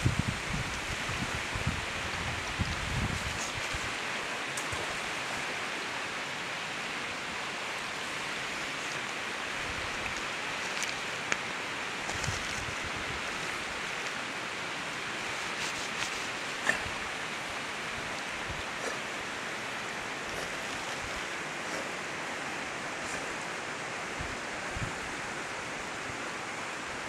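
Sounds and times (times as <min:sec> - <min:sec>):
flowing river water: 0:00.0 - 0:27.0.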